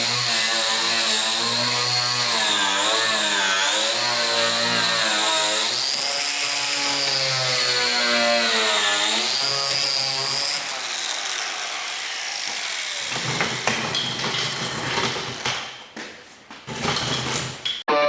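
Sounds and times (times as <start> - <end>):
angle grinder stripping paint: 0.0 - 15.4.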